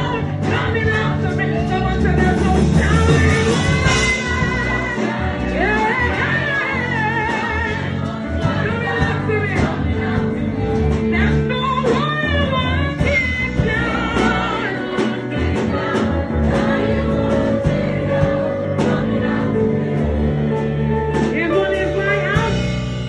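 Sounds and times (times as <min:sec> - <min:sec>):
band with chords and beat: 0:00.0 - 0:23.0.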